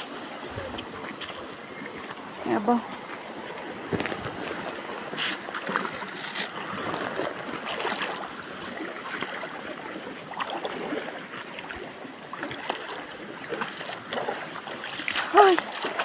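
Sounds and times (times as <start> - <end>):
small water splashes: 0.0 - 16.0
stream water rushing: 0.0 - 16.0.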